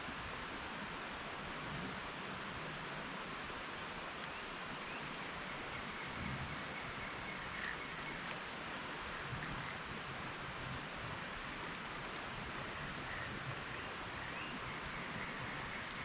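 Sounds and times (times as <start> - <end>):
steady outdoor background hiss: 0.0 - 16.0.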